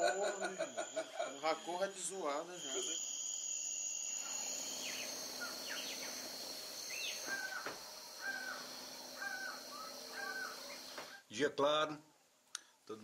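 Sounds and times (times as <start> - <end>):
insect drone: 0.0 - 11.2.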